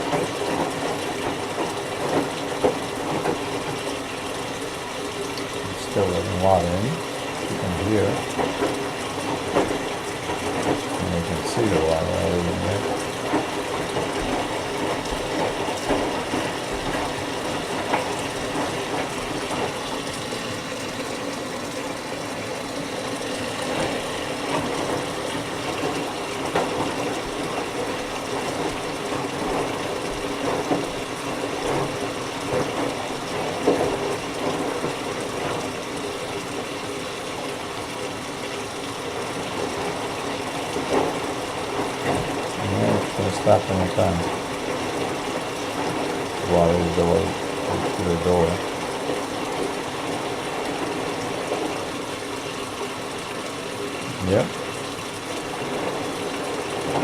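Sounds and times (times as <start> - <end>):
water filling washing machine drum: 0.0 - 57.0.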